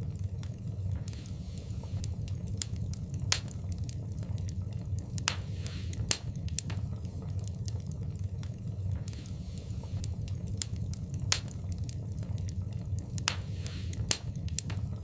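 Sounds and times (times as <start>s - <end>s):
low rumble of fire: 0.0s - 15.0s
wood fire pops and snaps: 0.0s - 15.0s.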